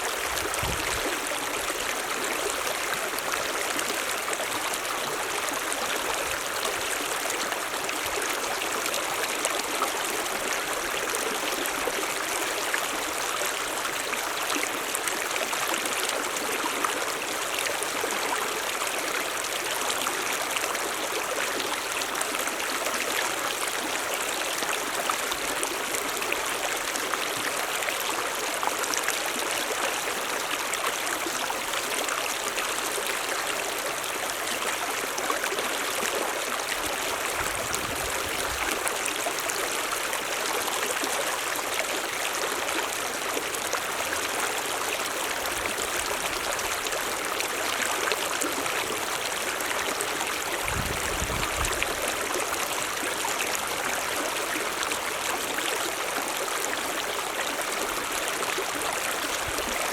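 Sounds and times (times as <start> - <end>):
stream rushing and splashing: 0.0 - 59.9.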